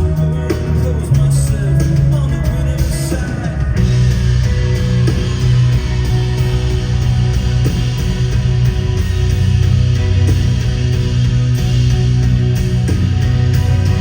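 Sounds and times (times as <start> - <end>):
electric guitar: 0.0 - 14.0
live rock band playing: 0.0 - 14.0
sustained bass notes: 0.0 - 14.0.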